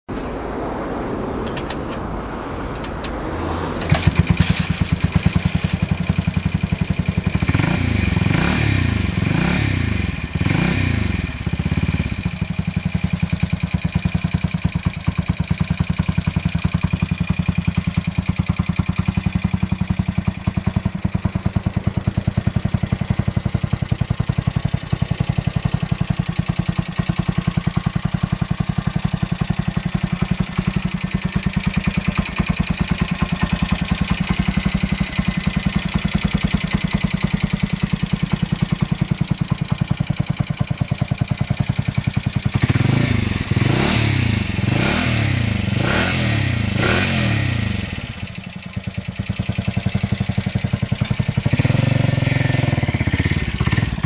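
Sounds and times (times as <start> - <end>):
motorcycle engine revving and idling: 2.7 - 54.0.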